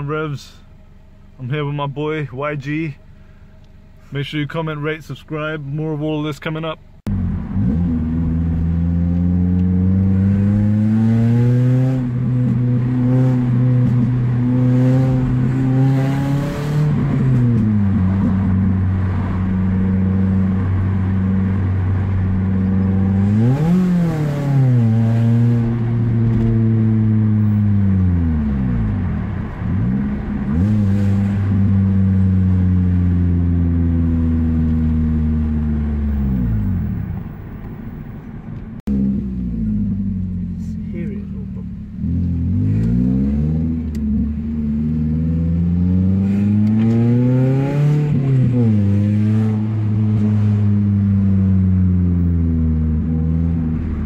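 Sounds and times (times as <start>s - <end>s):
car engine accelerating: 7.0s - 54.0s.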